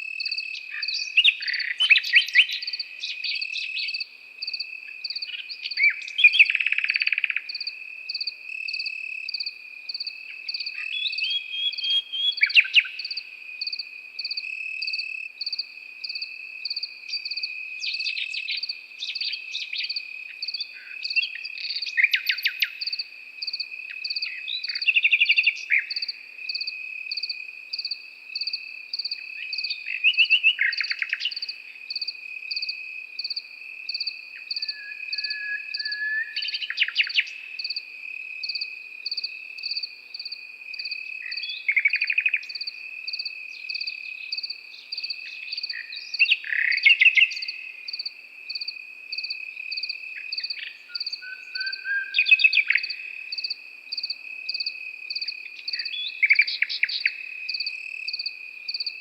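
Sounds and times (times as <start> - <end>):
crickets trilling: 0.0 - 59.0
nightingale singing: 0.0 - 59.0.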